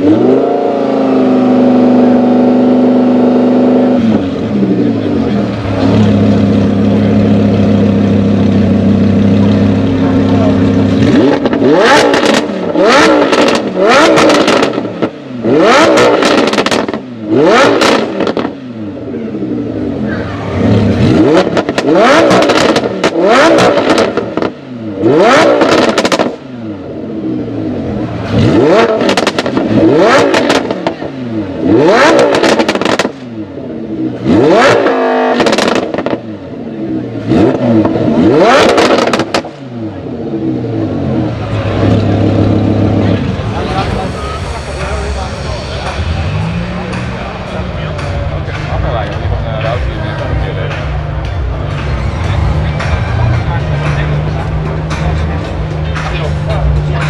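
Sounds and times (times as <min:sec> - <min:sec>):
loud car engine revving: 0:00.0 - 0:57.0.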